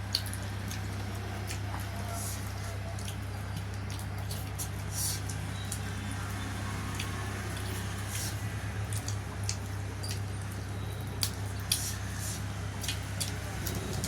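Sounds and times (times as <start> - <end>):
wet chewing and lip-smacking: 0.0 - 14.0.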